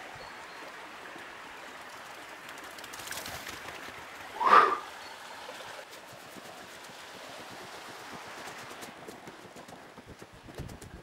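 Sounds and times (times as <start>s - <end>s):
stream running: 0.0s - 9.7s.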